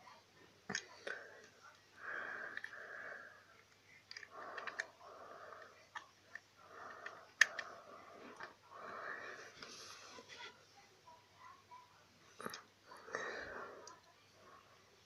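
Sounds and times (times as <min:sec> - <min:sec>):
soft breathy sounds: 0:00.0 - 0:15.0.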